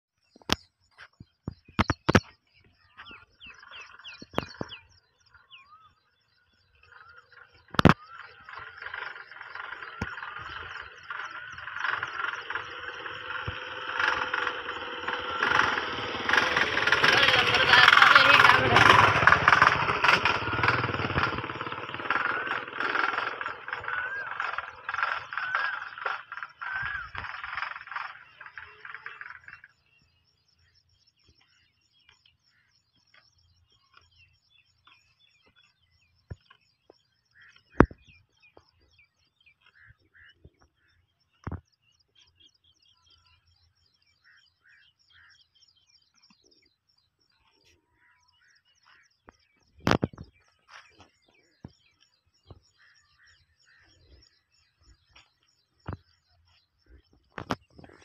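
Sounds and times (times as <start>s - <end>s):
birds chirping: 0.1s - 58.0s.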